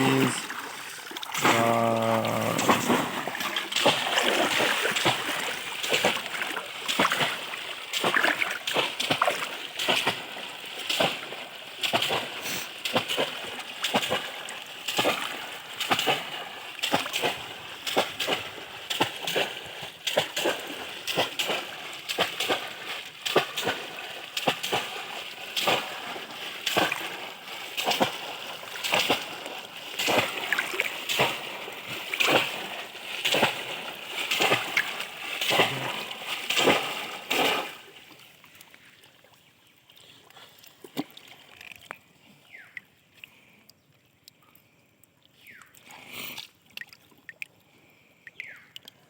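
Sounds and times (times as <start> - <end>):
water splashing: 0.0 - 42.8.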